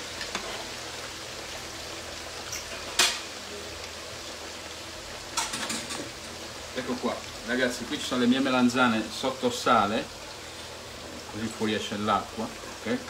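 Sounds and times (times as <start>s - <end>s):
chips sizzling in oil: 0.0s - 13.0s.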